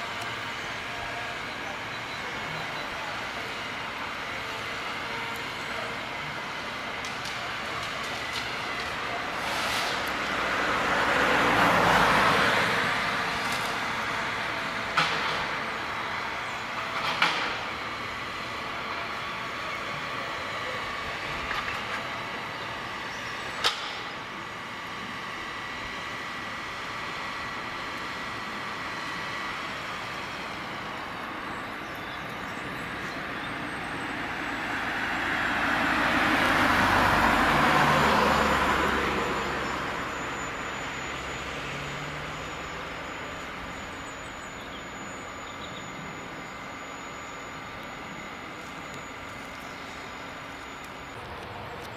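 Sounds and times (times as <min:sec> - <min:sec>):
harvester engine and hydraulics hum: 0:00.0 - 0:51.9.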